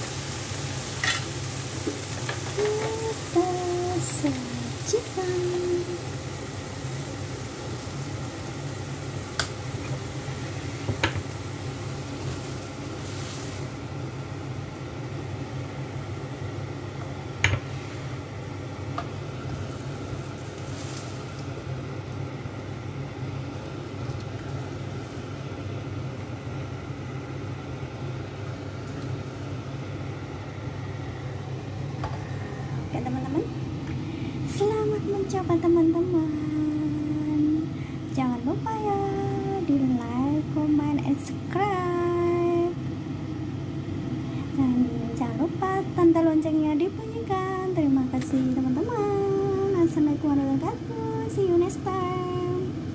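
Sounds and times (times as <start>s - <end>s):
steady low hum: 0.0s - 52.9s
vegetables sizzling in a wok: 0.0s - 52.9s.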